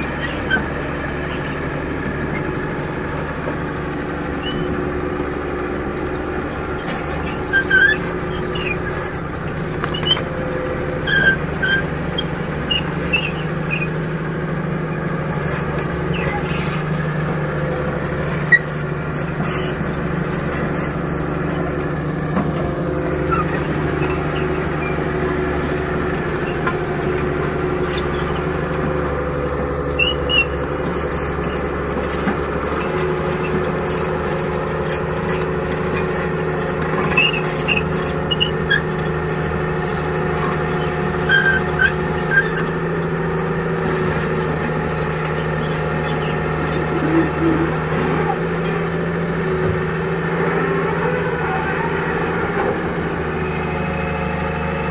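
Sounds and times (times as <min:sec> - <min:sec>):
short high squeaks: 0:00.0 - 0:50.1
heavy diesel engine running: 0:00.0 - 0:54.9.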